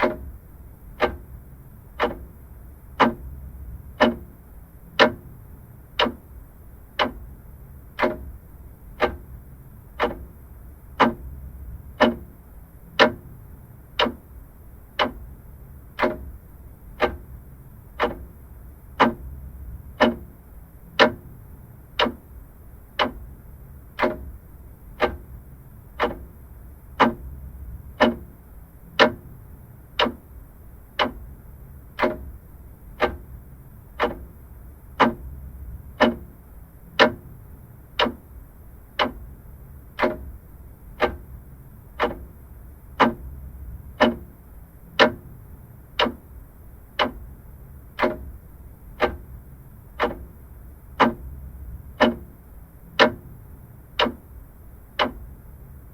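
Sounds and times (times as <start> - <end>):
mechanical clock ticking: 0.0 - 55.9.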